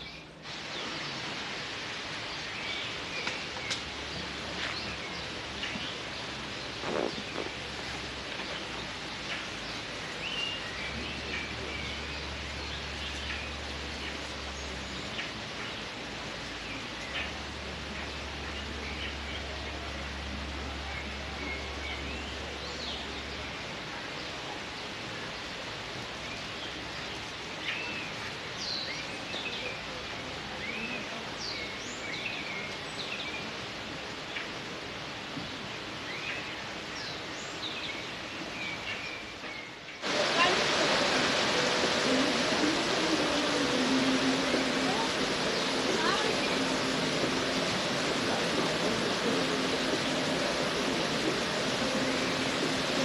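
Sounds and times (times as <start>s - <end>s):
small birds chirping: 0.0s - 29.9s, 30.5s - 53.0s
outdoor background hiss: 0.0s - 53.0s.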